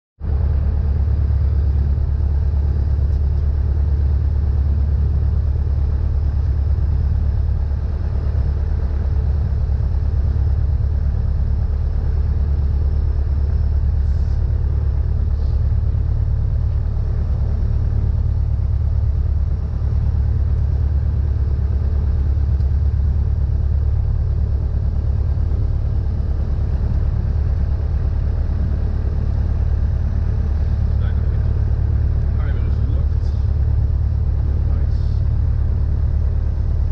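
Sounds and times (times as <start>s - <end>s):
propeller plane engine droning: 0.2s - 36.9s.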